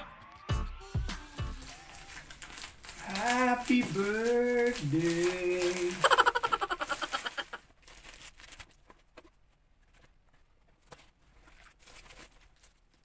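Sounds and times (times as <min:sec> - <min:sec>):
plastic wrapping rustling: 0:01.2 - 0:13.0.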